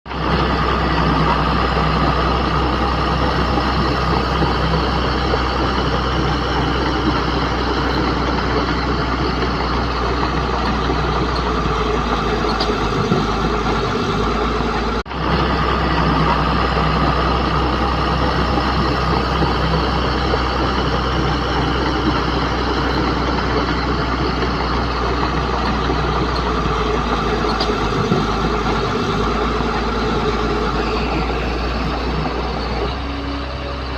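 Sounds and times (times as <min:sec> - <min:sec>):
bulldozer diesel engine running: 0:00.1 - 0:33.9.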